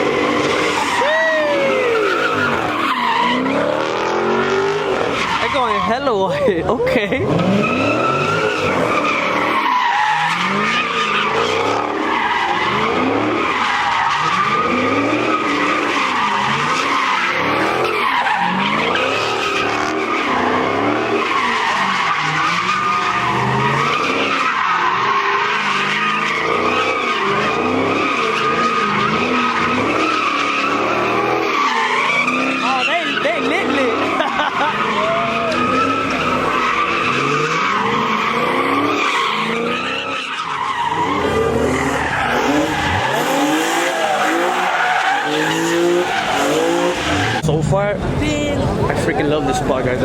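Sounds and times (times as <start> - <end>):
car engine revving: 0.0 - 50.0
tires squealing: 0.0 - 50.0.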